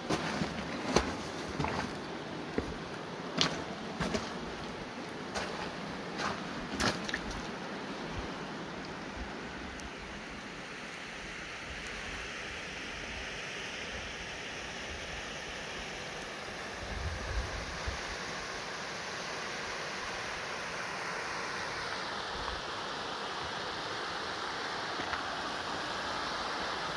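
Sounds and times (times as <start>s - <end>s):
creek water flowing: 0.0s - 26.9s.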